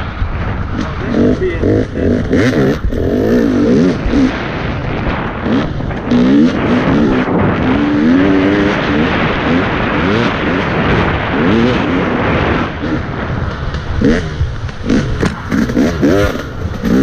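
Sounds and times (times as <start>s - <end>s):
dirt bike engine revving: 0.0s - 17.0s
wind rush: 0.0s - 17.0s.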